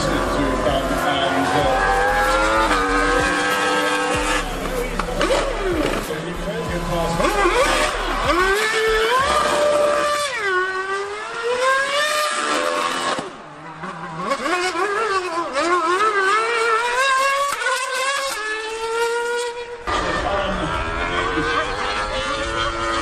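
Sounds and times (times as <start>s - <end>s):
racing car engine revving: 0.0s - 23.0s
superbike engine revving: 0.0s - 23.0s.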